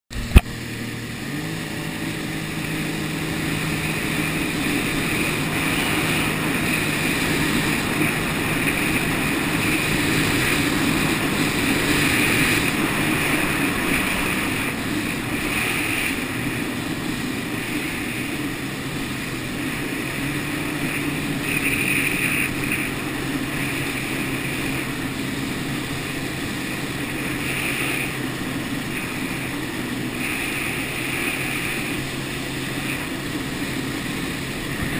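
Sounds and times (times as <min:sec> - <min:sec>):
jet ski engine droning: 0:00.1 - 0:34.9
water rushing: 0:00.1 - 0:34.9.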